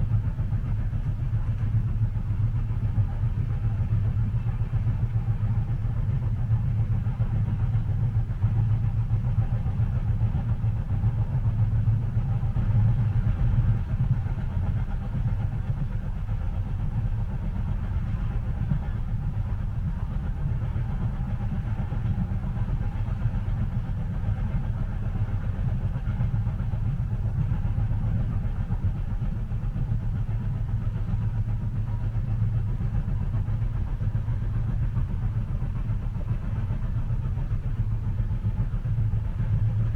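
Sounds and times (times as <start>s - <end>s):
train rumbling inside carriage: 0.0s - 39.9s.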